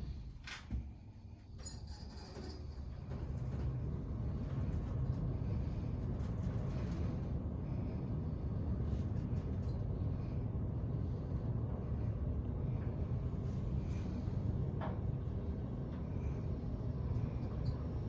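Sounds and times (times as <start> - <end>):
elevator car rumbling: 1.6 - 18.0.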